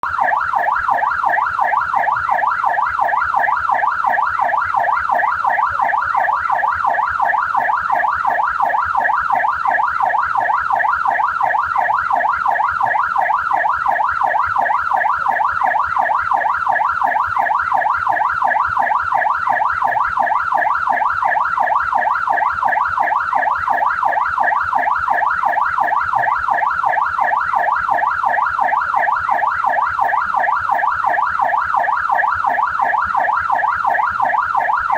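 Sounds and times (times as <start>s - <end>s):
police siren fast yelp: 0.0s - 34.9s.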